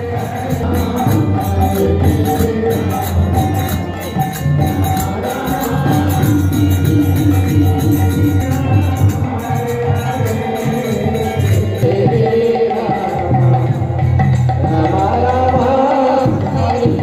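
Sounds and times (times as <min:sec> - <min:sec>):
harmonium chords: 0:00.0 - 0:17.0.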